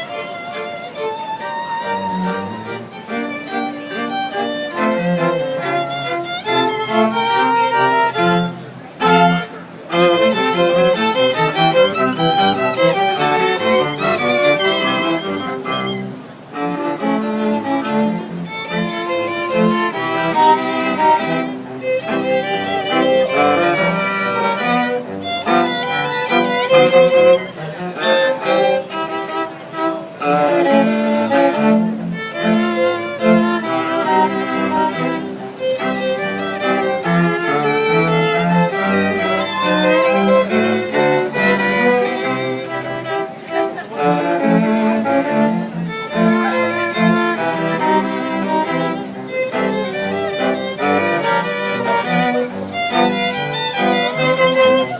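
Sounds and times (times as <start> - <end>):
string quartet playing: 0.0 - 54.9.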